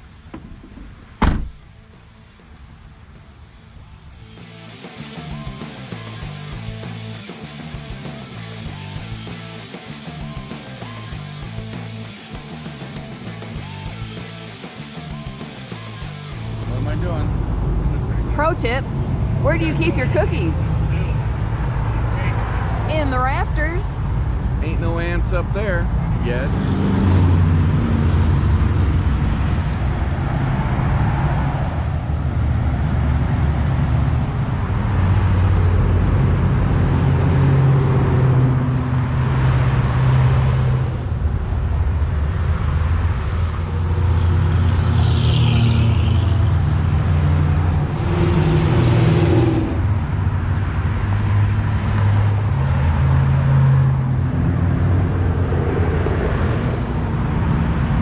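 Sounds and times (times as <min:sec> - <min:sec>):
car engine humming: 0:00.0 - 0:58.0.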